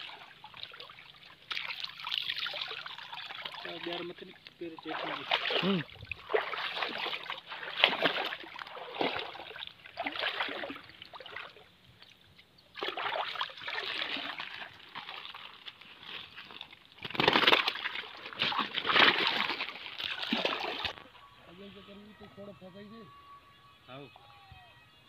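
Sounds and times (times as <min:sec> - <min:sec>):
pond water splashing: 0:00.0 - 0:21.1.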